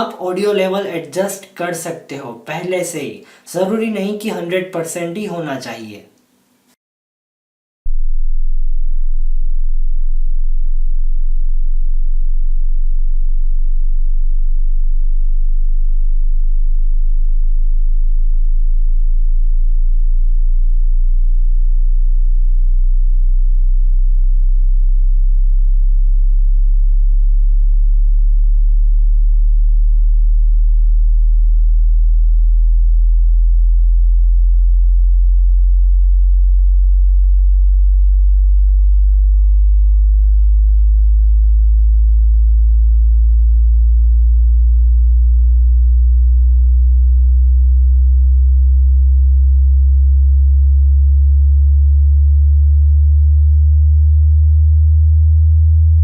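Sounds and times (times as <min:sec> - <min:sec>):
rising sine-wave test tone: 0:07.9 - 0:56.0.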